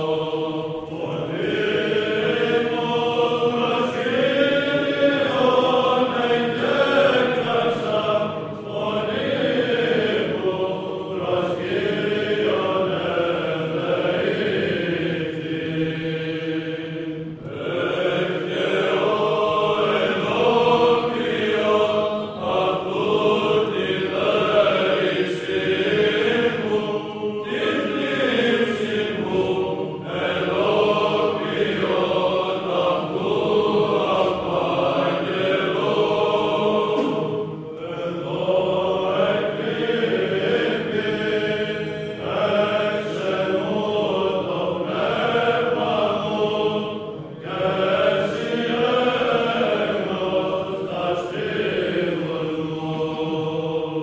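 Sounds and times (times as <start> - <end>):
voices chanting slow melody: 0.0 - 54.0.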